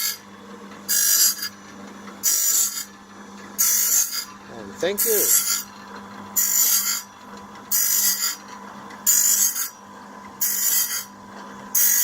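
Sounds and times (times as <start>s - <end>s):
grinding wheel grinding blade teeth: 0.0s - 12.0s
motor humming: 0.0s - 12.0s.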